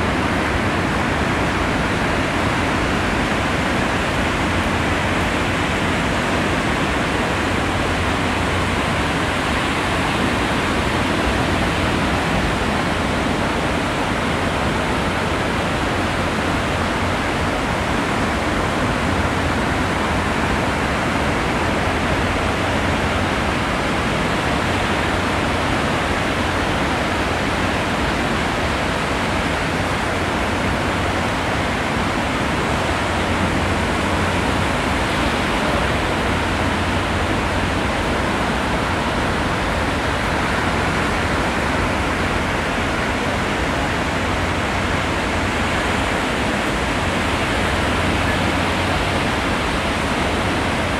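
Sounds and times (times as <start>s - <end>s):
ocean surf rushing: 0.0s - 50.9s.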